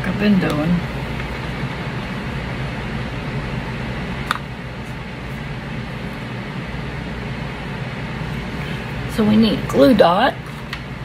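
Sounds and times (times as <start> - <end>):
fan-like room hum: 0.0 - 11.0.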